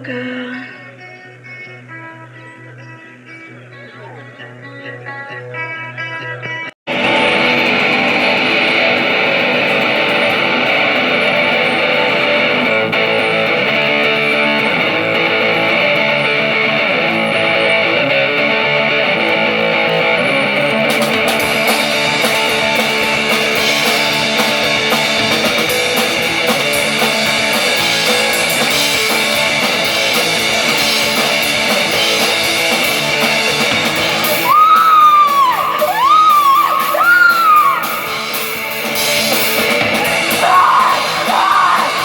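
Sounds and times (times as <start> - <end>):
high sliding notes: 6.9 - 42.0
rock band playing: 6.9 - 42.0.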